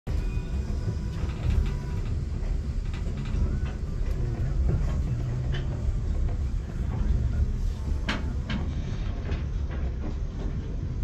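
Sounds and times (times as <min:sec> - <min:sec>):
train rumbling slowly: 0:00.1 - 0:11.0.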